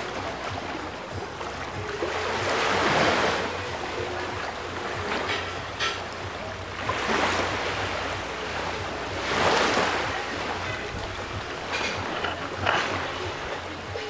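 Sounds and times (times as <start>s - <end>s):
small waves washing onto beach: 0.0s - 14.0s.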